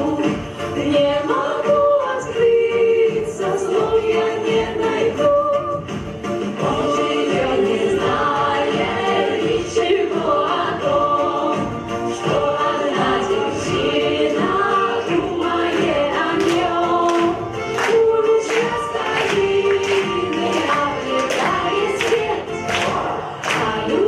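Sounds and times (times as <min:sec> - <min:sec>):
musical accompaniment: 0:00.0 - 0:24.0
voices singing in chorus: 0:00.0 - 0:24.0.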